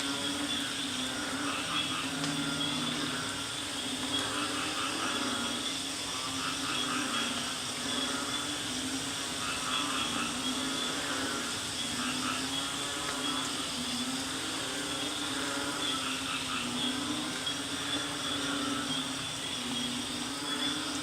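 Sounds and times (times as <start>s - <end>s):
frogs calling in pulses: 0.0s - 21.0s
high-pitched insect drone: 0.0s - 21.0s.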